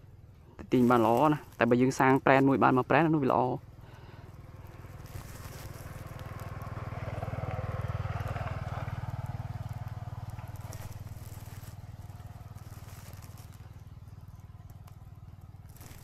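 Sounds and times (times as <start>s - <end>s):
passing vehicle engine: 0.6s - 16.0s.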